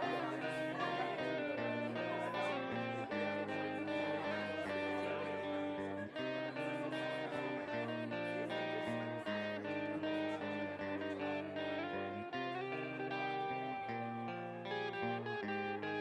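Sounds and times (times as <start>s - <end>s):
guitar plucked and strummed: 0.0s - 16.0s.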